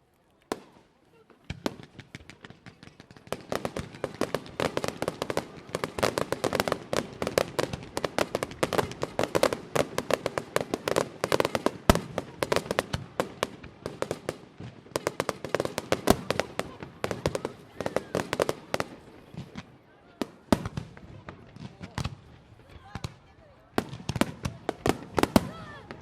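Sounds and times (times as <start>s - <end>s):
fireworks crackling and popping: 0.3s - 26.0s.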